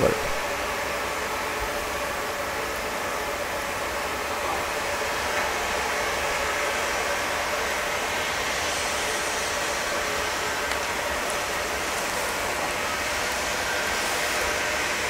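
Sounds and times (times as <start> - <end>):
distant steam locomotive exhaust: 0.0 - 15.0.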